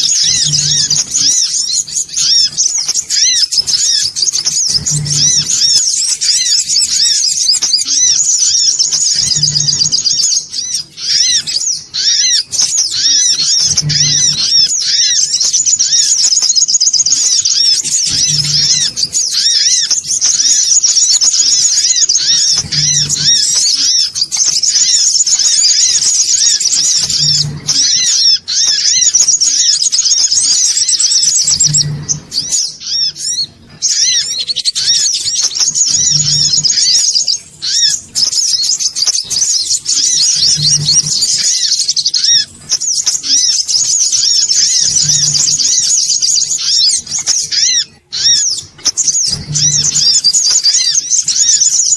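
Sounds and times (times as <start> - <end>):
sunbirds chirping rapidly: 0.0 - 51.9.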